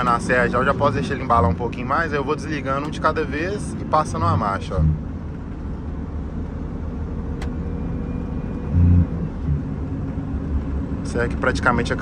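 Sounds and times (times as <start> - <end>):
road noise: 0.0 - 12.0
truck diesel engine: 0.0 - 12.0.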